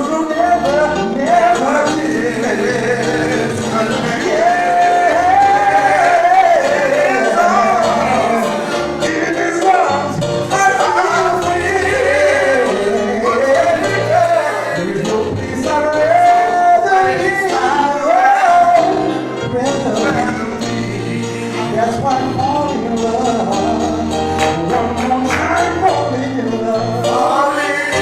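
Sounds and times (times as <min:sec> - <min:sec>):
instrumental accompaniment: 0:00.0 - 0:28.0
voices singing a gospel song: 0:00.0 - 0:28.0.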